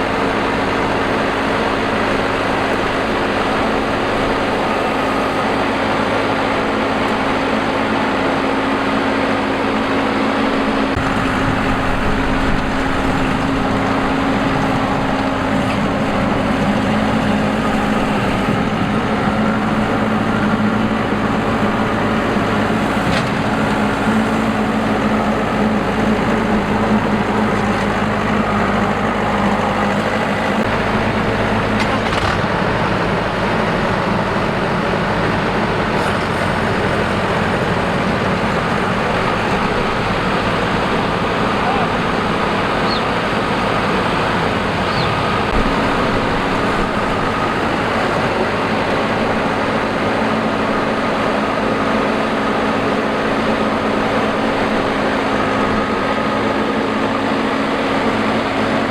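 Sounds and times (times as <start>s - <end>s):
combine harvester engine running: 0.0s - 58.9s.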